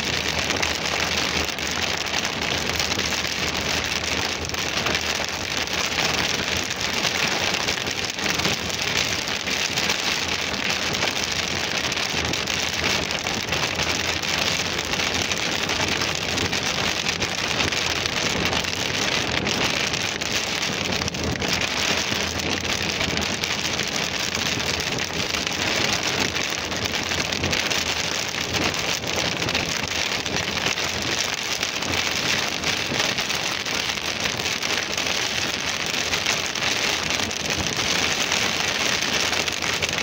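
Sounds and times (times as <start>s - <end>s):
heavy rain on car roof: 0.0s - 40.0s.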